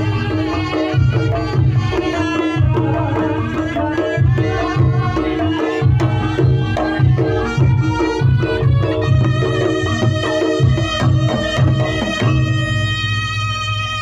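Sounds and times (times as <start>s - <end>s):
hand drums beating: 0.0s - 12.9s
gamelan melody line: 0.0s - 13.6s.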